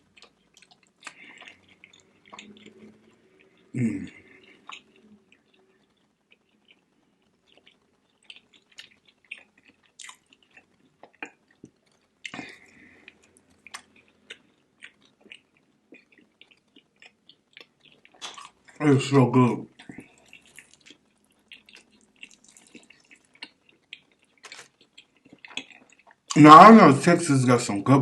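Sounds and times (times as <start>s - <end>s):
person chewing and lip smacking: 0.0s - 18.8s, 19.7s - 26.4s.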